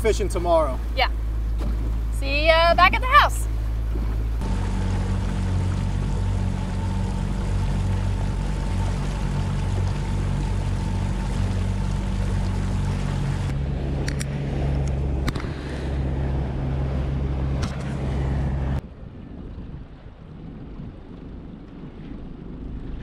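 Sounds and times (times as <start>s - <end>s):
rushing water: 0.0s - 18.8s
outboard motor running: 0.0s - 23.0s.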